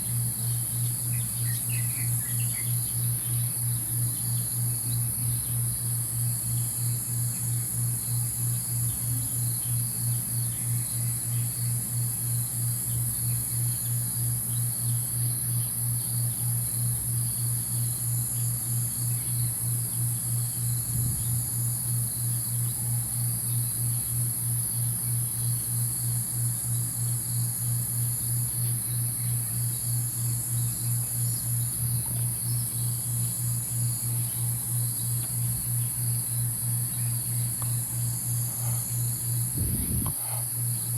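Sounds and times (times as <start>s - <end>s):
cricket and insect chorus: 0.0s - 40.9s.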